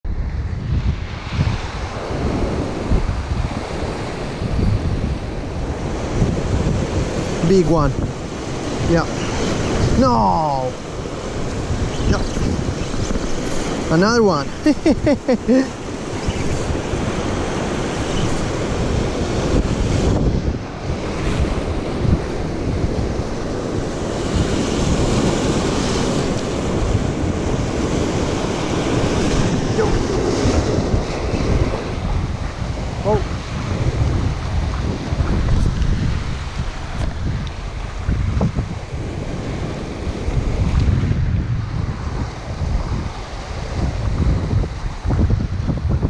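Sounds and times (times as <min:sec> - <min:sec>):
wind buffeting microphone: 0:00.0 - 0:46.0
surf washing over rocks: 0:00.8 - 0:46.0.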